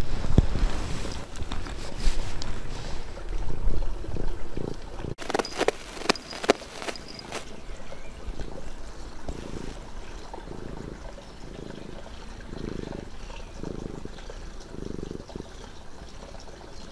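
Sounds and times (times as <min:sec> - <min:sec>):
cat purring: 0:00.0 - 0:16.9.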